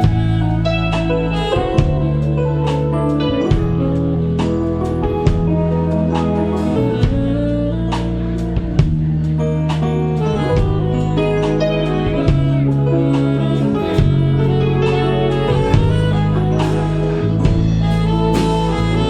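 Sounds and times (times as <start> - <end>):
band playing instrumental music: 0.0 - 19.0
guitar melody: 0.0 - 19.0.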